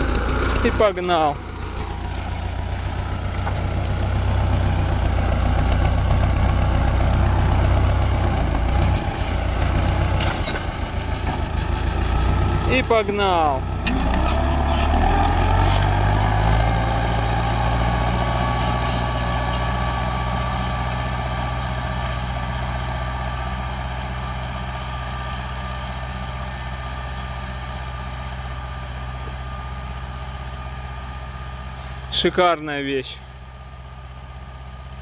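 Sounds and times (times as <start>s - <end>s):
tractor engine under load: 0.0s - 35.0s.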